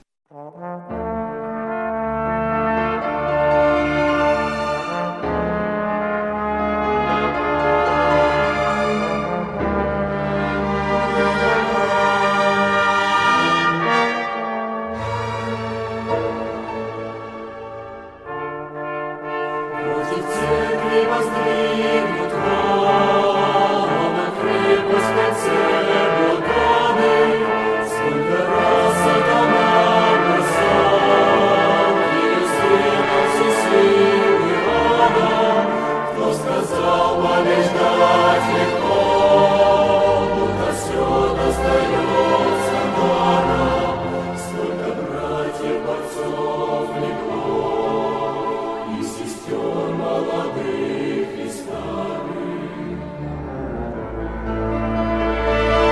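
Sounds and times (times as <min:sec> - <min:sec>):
brass instruments: 0:00.3 - 0:55.9
choir singing sustained chords: 0:02.4 - 0:55.9.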